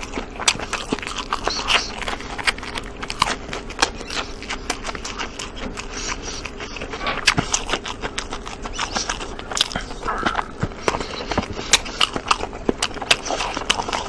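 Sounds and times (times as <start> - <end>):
crunchy chewing and biting: 0.0 - 14.0.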